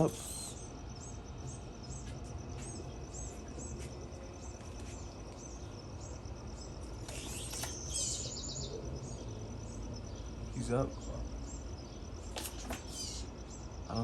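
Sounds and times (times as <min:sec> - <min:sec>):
birds chirping: 0:00.0 - 0:14.0
high insect-like trill: 0:00.0 - 0:14.0.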